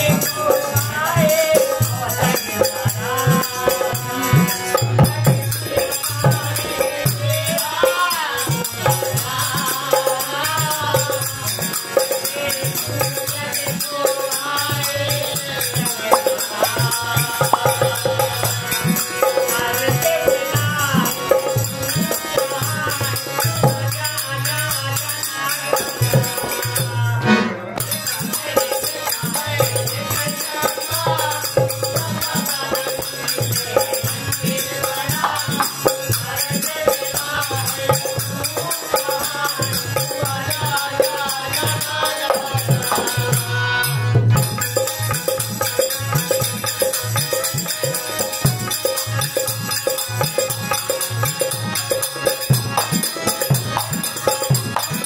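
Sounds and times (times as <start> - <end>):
hand percussion rattling: 0.0 - 27.0, 27.8 - 43.5, 44.3 - 55.0
harmonium: 0.0 - 55.0
man singing: 0.0 - 55.0.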